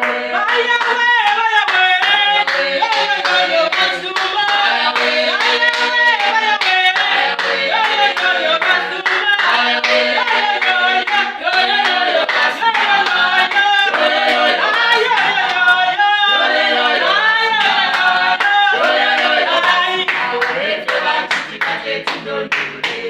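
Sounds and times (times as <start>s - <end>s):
group singing gospel song: 0.0s - 23.0s
hands clapping: 0.0s - 23.0s.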